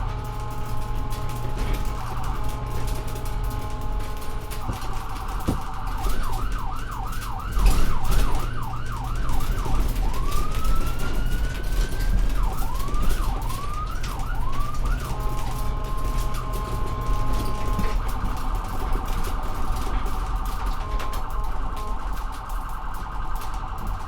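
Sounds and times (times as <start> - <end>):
ambulance siren: 0.0 - 24.0
low vehicle rumble: 0.0 - 24.0.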